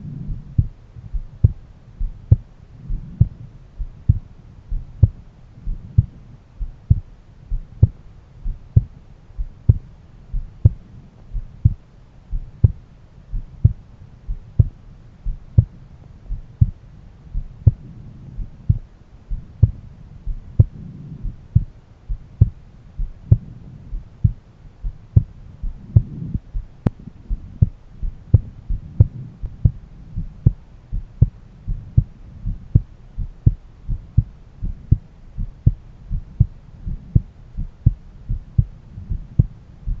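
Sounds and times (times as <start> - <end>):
faint low hum: 0.0 - 40.0
heartbeat thumps: 0.0 - 40.0.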